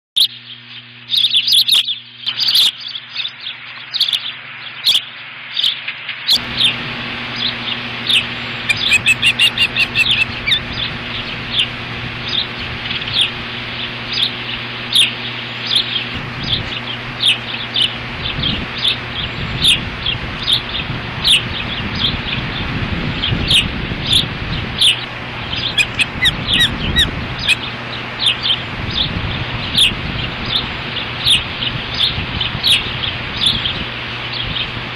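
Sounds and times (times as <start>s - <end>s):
ospreys chirping: 1.1s - 3.3s, 4.0s - 5.1s, 6.3s - 34.8s
low hum: 6.3s - 34.9s
wind noise: 6.4s - 34.9s.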